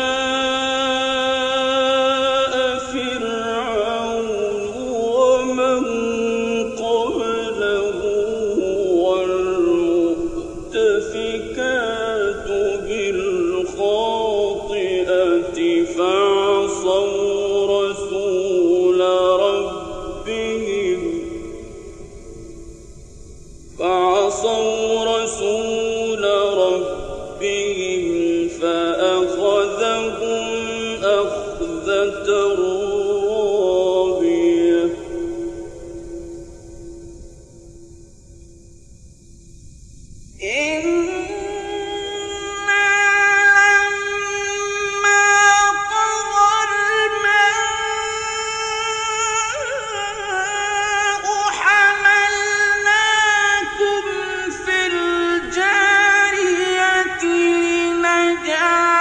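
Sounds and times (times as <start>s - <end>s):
man chanting ornamented notes: 0.0s - 22.7s, 23.8s - 38.6s, 40.4s - 59.0s.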